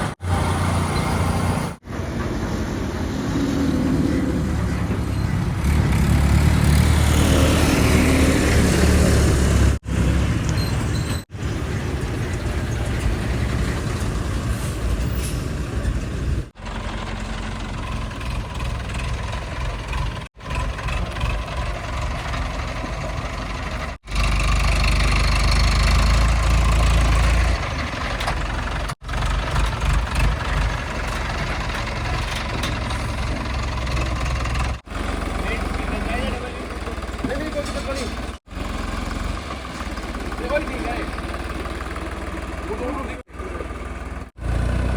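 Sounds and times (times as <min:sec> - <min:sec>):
heavy diesel engines under load: 0:00.0 - 0:44.9.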